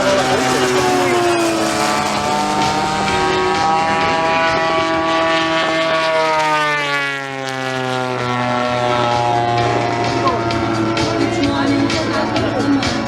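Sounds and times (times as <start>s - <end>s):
model plane engines droning: 0.0s - 13.0s.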